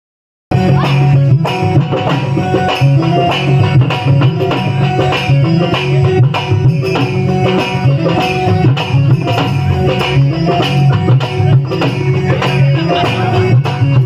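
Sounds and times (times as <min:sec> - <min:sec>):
dholak drumming: 0:00.5 - 0:14.0
held melody notes: 0:00.5 - 0:14.0.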